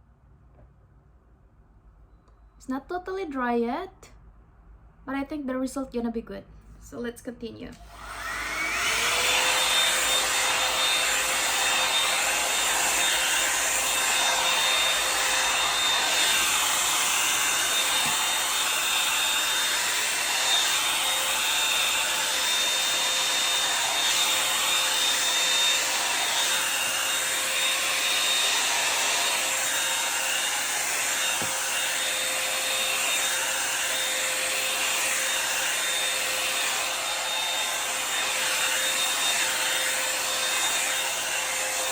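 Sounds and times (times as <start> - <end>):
hot-air brush motor whining: 7.8 - 41.9.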